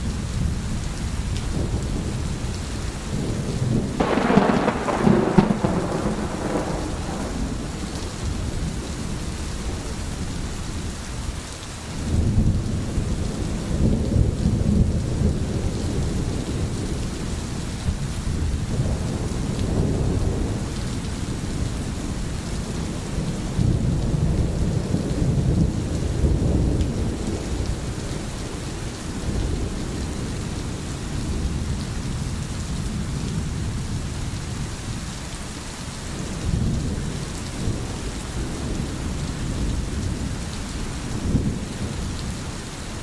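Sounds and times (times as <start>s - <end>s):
thunder rumbling: 0.0s - 11.0s, 12.0s - 34.6s, 36.1s - 43.0s
heavy rain: 0.0s - 43.0s.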